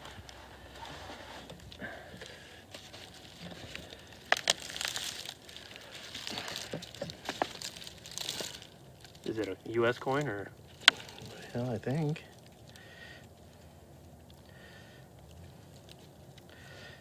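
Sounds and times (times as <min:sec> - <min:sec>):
faint rustling and crinkling: 0:00.0 - 0:17.0.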